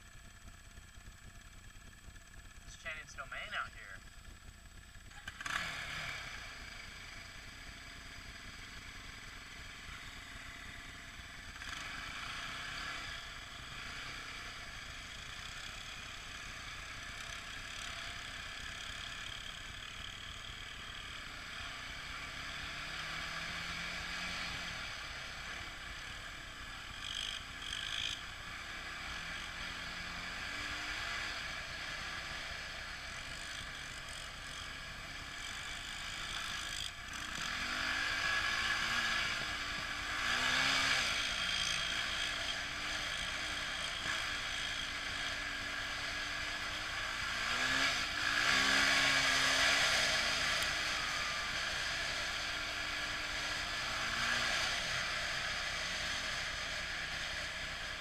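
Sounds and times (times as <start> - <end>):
atv engines running: 0.0 - 58.0.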